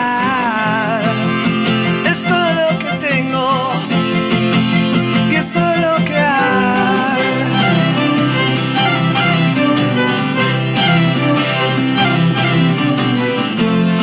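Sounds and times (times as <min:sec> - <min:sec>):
acoustic guitar: 0:00.0 - 0:14.0
cellos bowing: 0:00.2 - 0:14.0.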